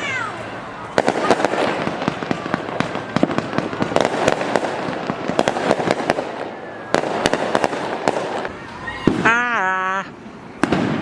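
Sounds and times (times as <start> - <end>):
fireworks bangs: 0.0 - 9.6, 10.5 - 11.0
fireworks popping and crackling: 0.0 - 9.6, 10.6 - 11.0.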